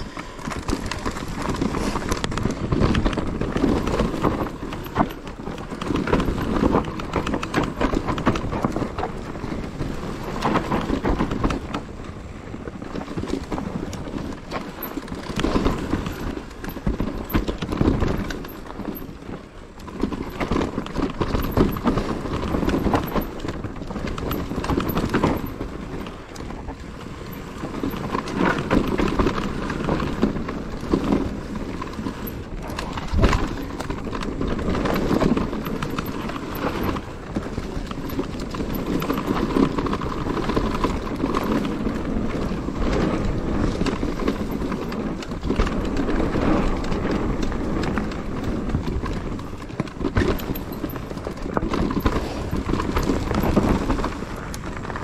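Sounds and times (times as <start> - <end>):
mountain bike rattling over stones: 0.0 - 55.0.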